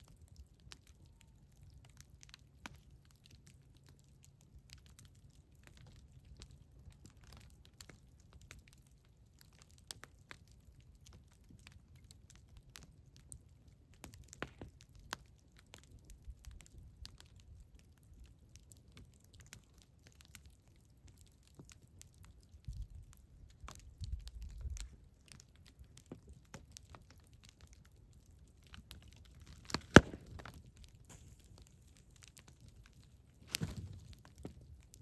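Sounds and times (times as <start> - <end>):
burning wood popping: 0.0 - 35.0
campfire crackling: 0.0 - 35.0.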